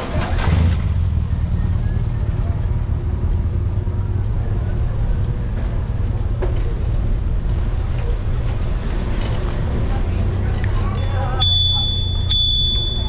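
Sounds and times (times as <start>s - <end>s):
car ahead: 0.0s - 13.0s
low rumble of bicycle ride: 0.0s - 13.0s.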